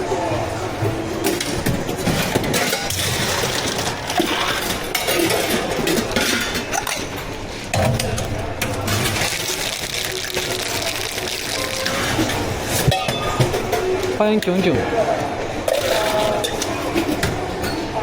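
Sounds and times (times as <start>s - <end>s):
cups and utensils clinking: 0.0s - 18.0s.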